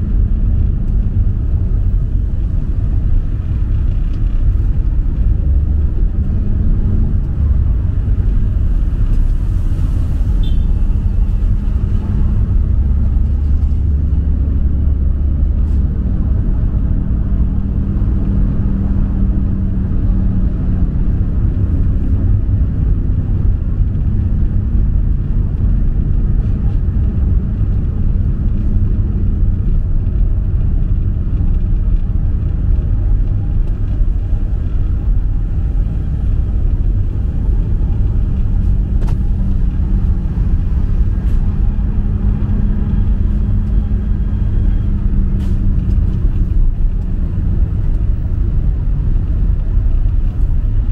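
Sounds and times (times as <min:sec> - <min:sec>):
deep vehicle rumble: 0:00.0 - 0:50.9
faint engine hum: 0:00.0 - 0:50.9.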